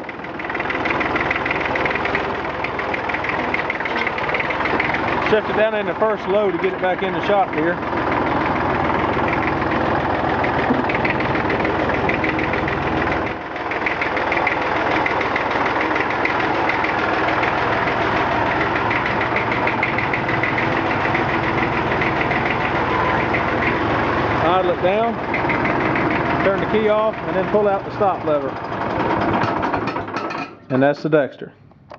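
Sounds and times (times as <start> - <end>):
diesel tractor engine clattering: 0.0 - 31.9.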